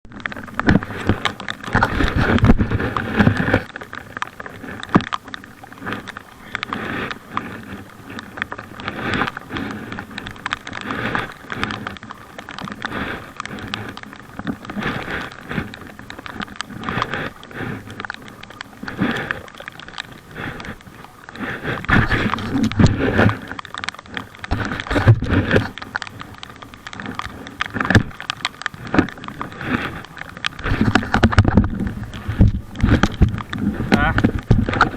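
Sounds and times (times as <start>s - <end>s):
paddle splashing in water: 0.1s - 34.9s.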